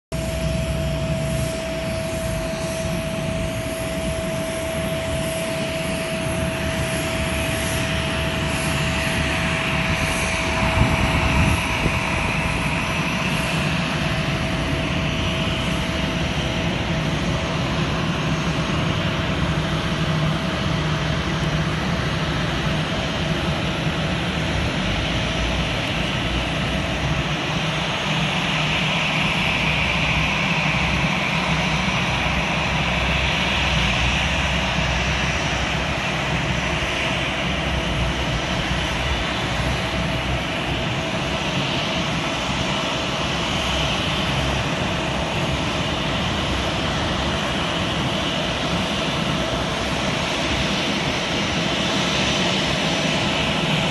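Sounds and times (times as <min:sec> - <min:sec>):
jet engines rumbling: 0:00.1 - 0:53.9.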